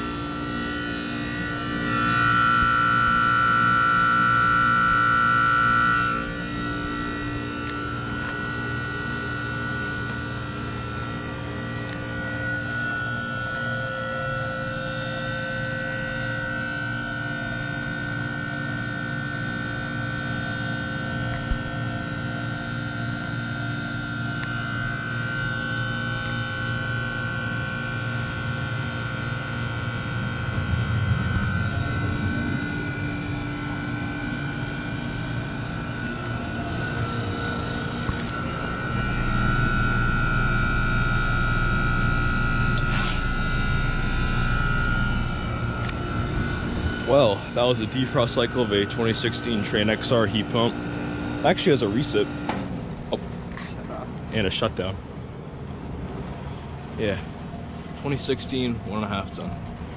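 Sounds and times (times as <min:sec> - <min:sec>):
heat pump compressor humming: 0:00.0 - 0:59.9.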